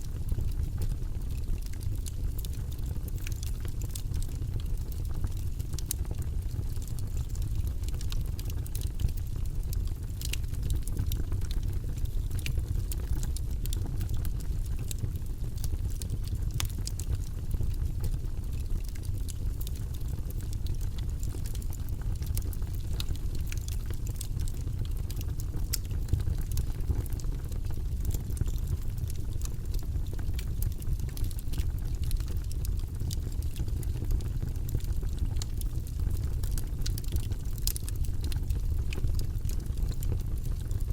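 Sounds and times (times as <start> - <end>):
campfire flames rumbling: 0.0 - 40.9
wood crackling and popping: 0.0 - 40.9.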